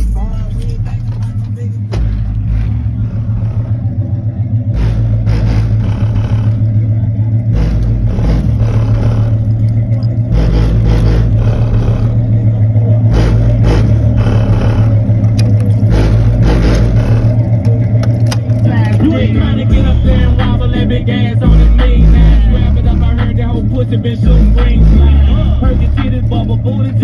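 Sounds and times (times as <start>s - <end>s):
bass-heavy music from car subwoofer: 0.0s - 27.0s
deep bass note: 0.0s - 27.0s.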